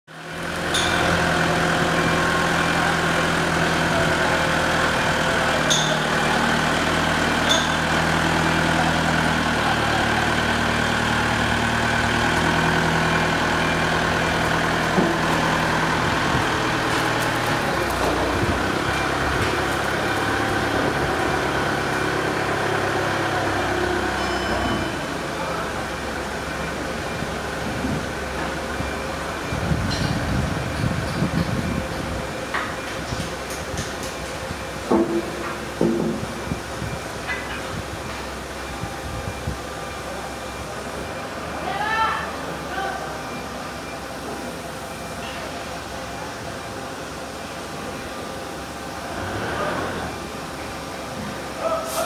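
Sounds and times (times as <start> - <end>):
diesel forklift engine running: 0.1 - 52.0.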